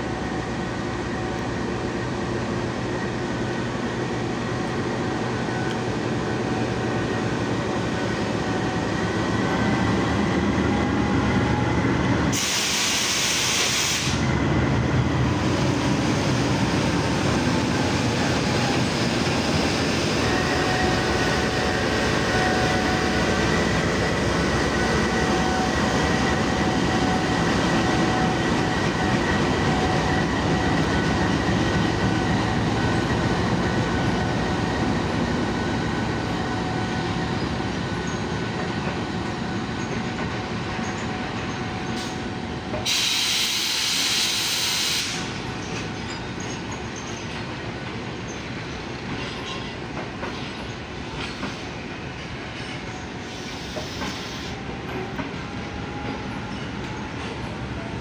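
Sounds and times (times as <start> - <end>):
diesel locomotive running: 0.0 - 58.0.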